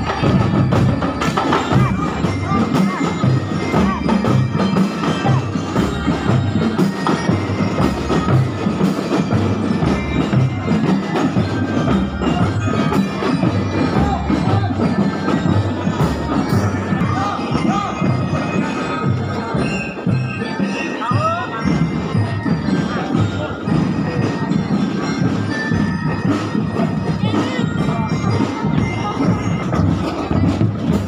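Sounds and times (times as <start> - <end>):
bell lyres playing a tune: 0.0 - 31.0
steady drumbeats: 0.0 - 31.0.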